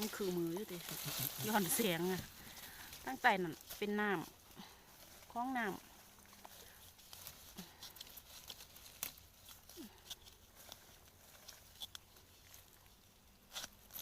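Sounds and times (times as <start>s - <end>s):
faint crackles and clicks: 0.0s - 14.0s.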